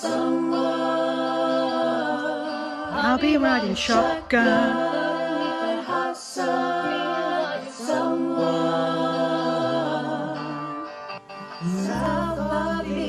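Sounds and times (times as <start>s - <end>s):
group singing a cappella: 0.0s - 13.0s.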